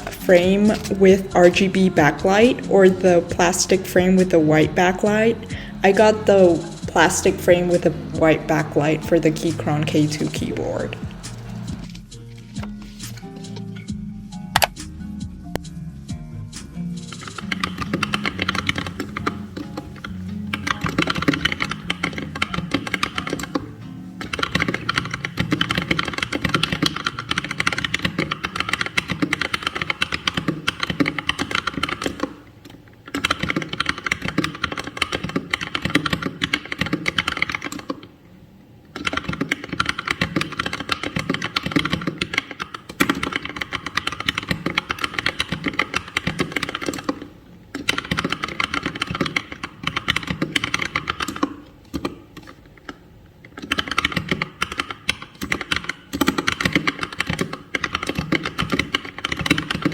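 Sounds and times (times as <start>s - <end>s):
mechanical keyboard typing: 0.0s - 11.8s, 17.1s - 38.1s, 38.9s - 59.9s.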